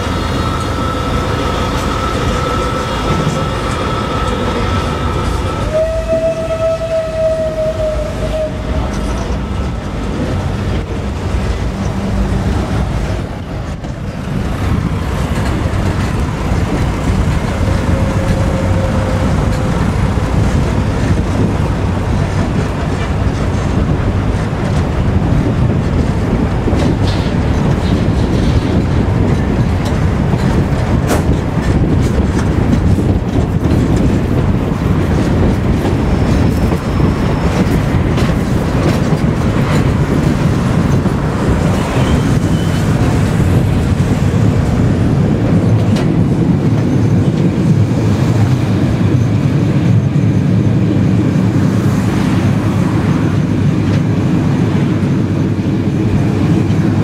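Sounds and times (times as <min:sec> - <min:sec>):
wheels clicking over rails: 0:00.0 - 0:50.1
train rumbling: 0:00.0 - 0:57.0.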